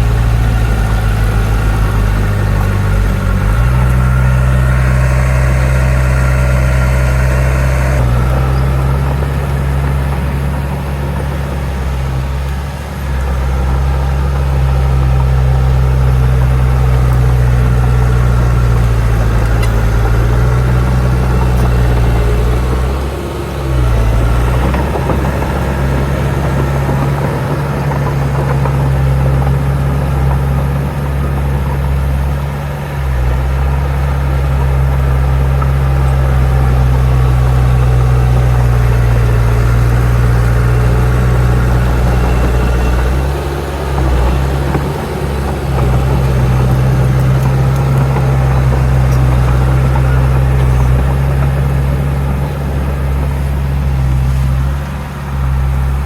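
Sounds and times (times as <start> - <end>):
diesel earthmover engine drone: 0.0 - 56.0.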